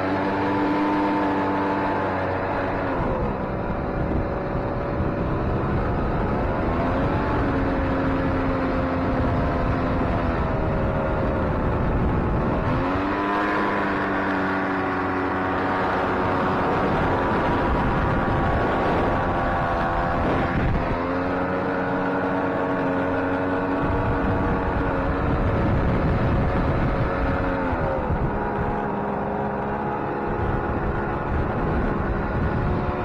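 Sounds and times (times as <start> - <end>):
jet boat engine running: 0.0 - 33.0.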